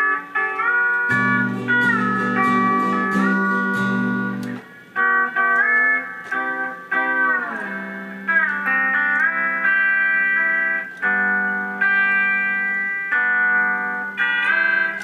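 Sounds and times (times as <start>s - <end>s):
slide guitar riff: 1.1s - 14.6s.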